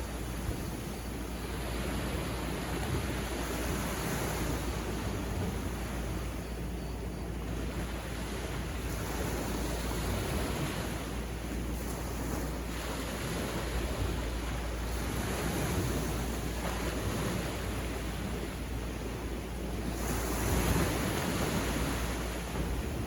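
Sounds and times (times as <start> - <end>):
sea waves washing onto beach: 0.0 - 23.0
wind on microphone: 0.0 - 23.0.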